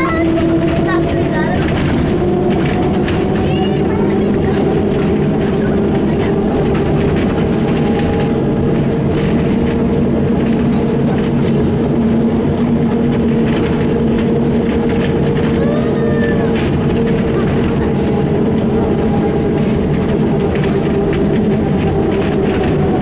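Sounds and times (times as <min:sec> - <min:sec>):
bus body rattling: 0:00.0 - 0:23.0
bus diesel engine running: 0:00.0 - 0:23.0
road noise: 0:00.0 - 0:23.0.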